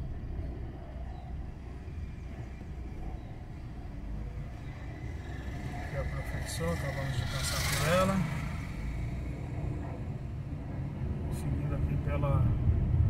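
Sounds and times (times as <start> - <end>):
car engine: 0.0 - 12.7
road noise: 0.0 - 13.0.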